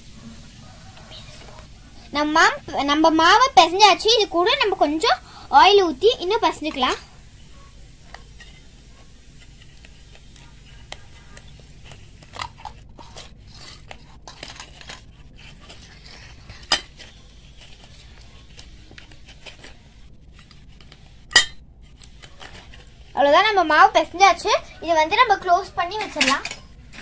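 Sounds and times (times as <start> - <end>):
hands rubbing dough: 0.0 - 26.0.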